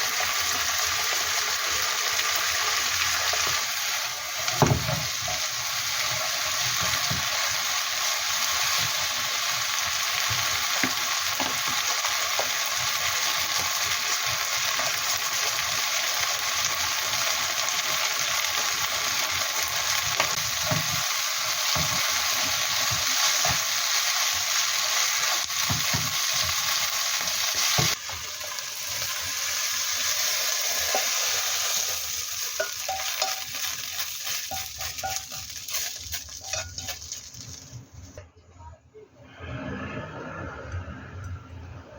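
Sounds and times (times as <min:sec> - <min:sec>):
food sizzling in a hot pan: 0:00.0 - 0:38.2.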